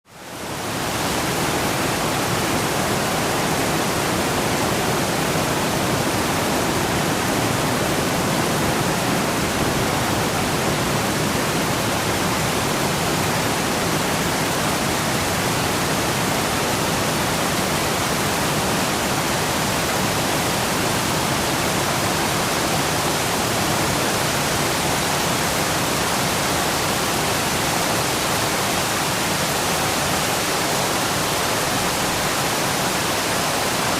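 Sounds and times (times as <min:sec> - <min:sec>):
rain falling on a lake: 0:00.1 - 0:33.9.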